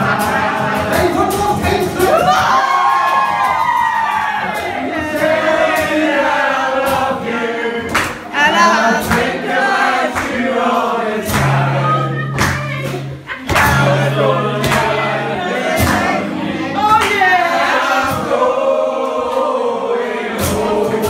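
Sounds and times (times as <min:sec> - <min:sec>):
group singing a folk song: 0:00.0 - 0:21.0
strummed acoustic guitar: 0:00.0 - 0:21.0.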